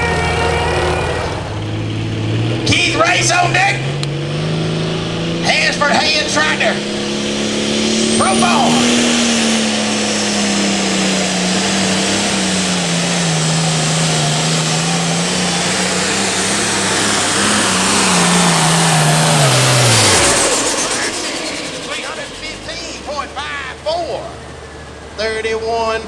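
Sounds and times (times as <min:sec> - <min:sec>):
tractor diesel engine at full throttle: 0:00.0 - 0:26.0.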